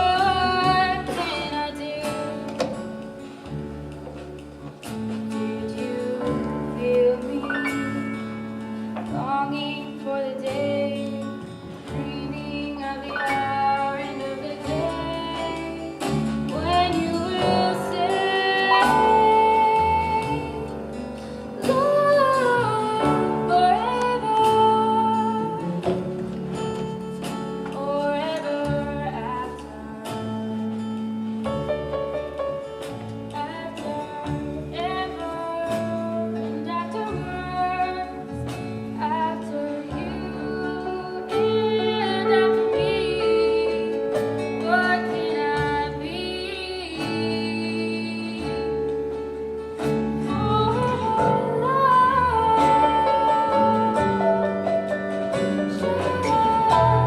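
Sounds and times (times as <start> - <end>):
woman singing: 0.0 - 3.2, 4.9 - 26.2, 27.3 - 31.7, 33.3 - 49.2, 49.8 - 57.0
guitar accompaniment: 0.0 - 57.0.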